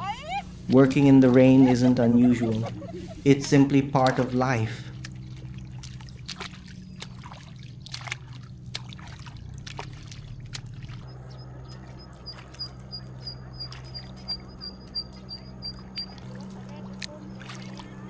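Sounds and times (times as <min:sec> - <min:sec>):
steady low hum: 0:00.0 - 0:18.0
water trickling and dripping: 0:00.0 - 0:18.0.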